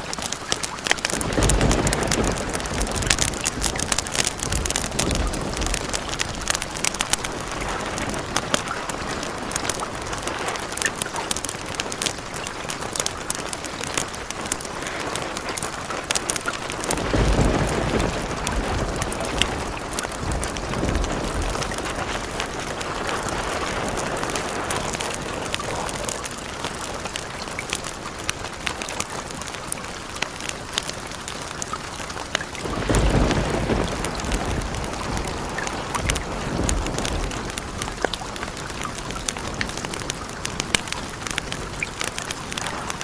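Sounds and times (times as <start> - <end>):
steady rain: 0.0 - 43.0
low thunder rumbles: 0.9 - 28.5, 32.1 - 43.0.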